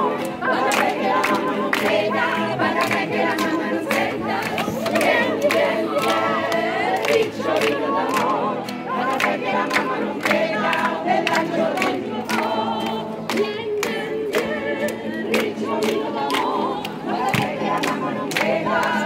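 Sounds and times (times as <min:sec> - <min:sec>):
acoustic guitar: 0:00.0 - 0:19.0
hand-clapping: 0:00.0 - 0:19.0
women singing in chorus: 0:00.0 - 0:19.0.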